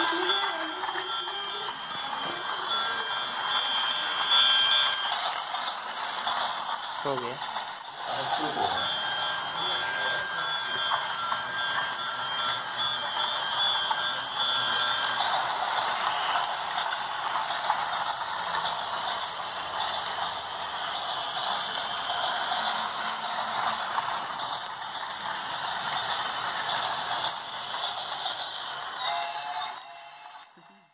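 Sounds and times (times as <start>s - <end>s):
held tone: 0.0s - 30.9s
thin high whine: 0.0s - 30.9s
toy train rattling clatter: 0.0s - 30.9s.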